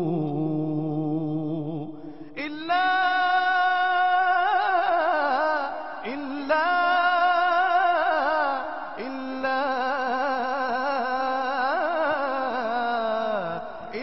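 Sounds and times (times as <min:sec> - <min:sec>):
man singing wordless melisma: 0:00.0 - 0:14.0.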